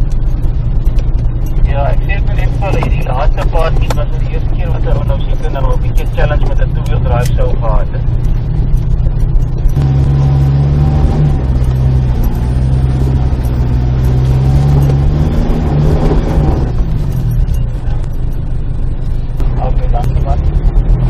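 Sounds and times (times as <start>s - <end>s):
vehicle engine pulling at low speed: 0.0s - 21.0s.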